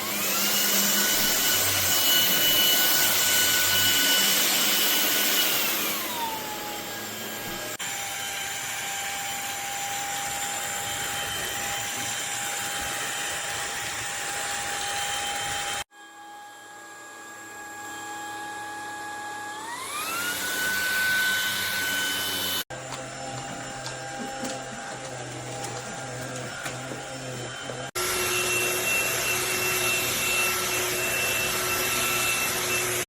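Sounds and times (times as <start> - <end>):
vacuum cleaner motor whine: 0.0 - 33.0.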